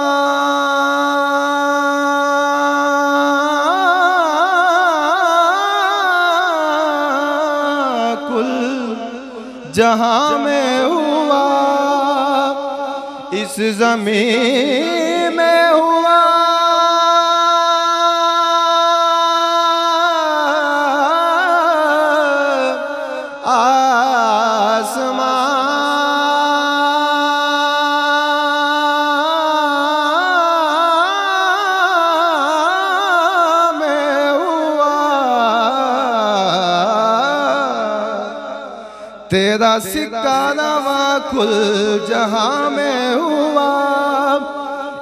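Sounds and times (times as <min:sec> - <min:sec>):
man singing: 0:00.0 - 0:45.0.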